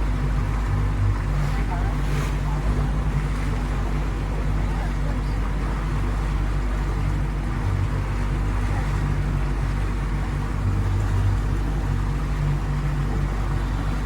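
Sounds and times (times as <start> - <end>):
motorboat engine droning: 0.0 - 14.0
wind and water rushing: 0.0 - 14.0.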